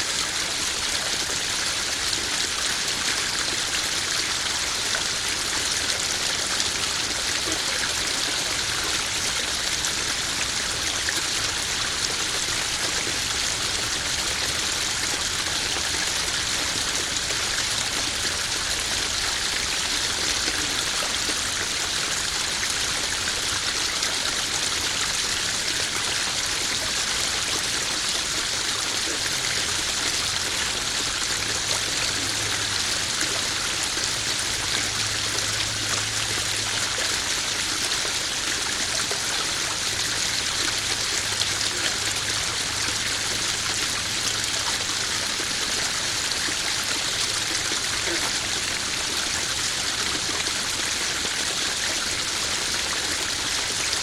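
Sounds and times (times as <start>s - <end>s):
waterfall splashing into pond: 0.0s - 54.0s.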